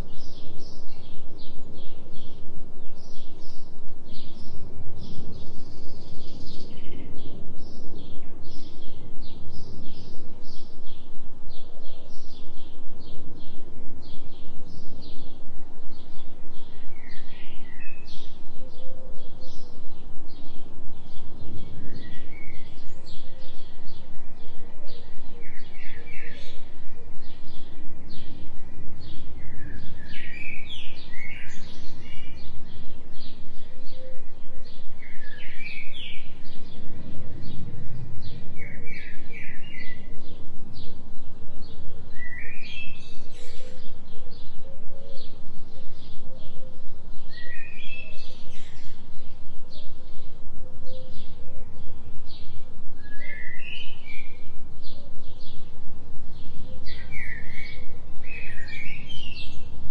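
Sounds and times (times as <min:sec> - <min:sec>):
small birds chirping: 0:00.0 - 0:59.9
steady low drone: 0:00.0 - 0:59.9.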